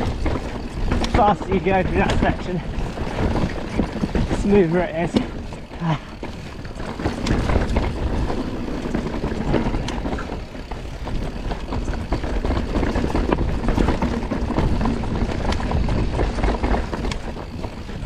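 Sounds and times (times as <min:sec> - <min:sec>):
bike rattling and knocking: 0:00.0 - 0:18.0
bike tyres rumbling on dirt: 0:00.0 - 0:18.0.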